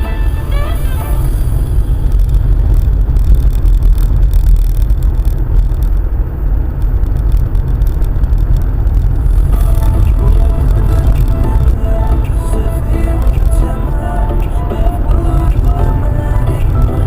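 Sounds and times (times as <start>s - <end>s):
car tyre and engine rumble: 0.0s - 17.0s
road noise: 0.0s - 17.0s.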